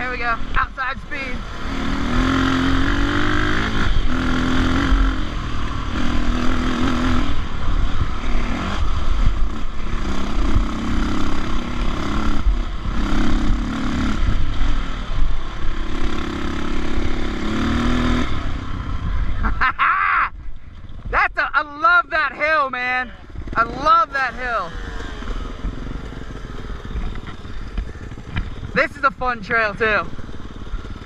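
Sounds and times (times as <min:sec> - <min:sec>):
dirt bike engine revving: 0:00.0 - 0:19.9, 0:21.6 - 0:31.0.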